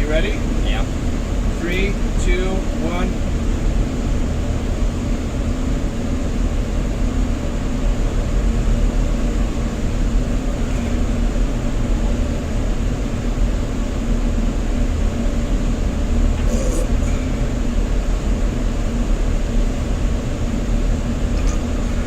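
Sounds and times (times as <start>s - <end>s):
ship engine rumble and hum: 0.0s - 22.0s.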